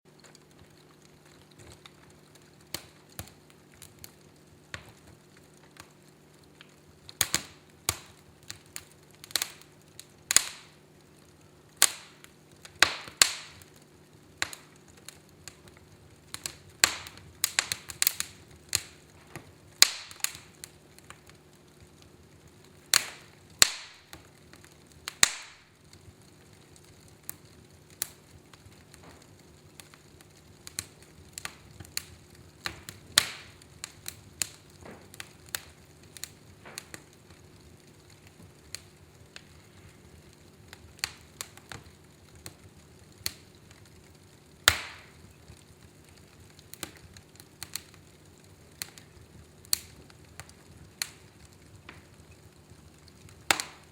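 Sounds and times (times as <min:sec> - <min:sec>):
fire crackling: 0:00.1 - 0:53.9
sharp pops of fire: 0:00.1 - 0:53.9.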